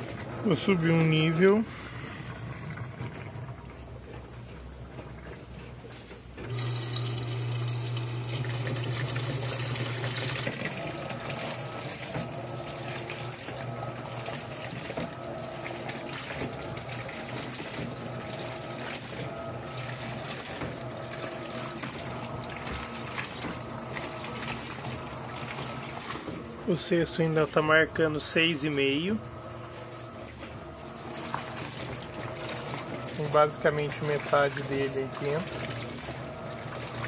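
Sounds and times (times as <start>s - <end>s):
washing machine humming: 0.0s - 37.0s
water rushing into drum: 6.5s - 37.0s
water splashing: 6.9s - 37.0s.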